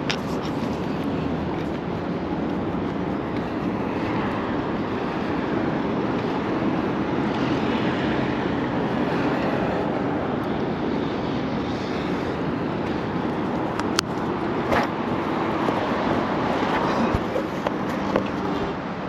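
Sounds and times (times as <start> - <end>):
road traffic rush: 0.0 - 19.0.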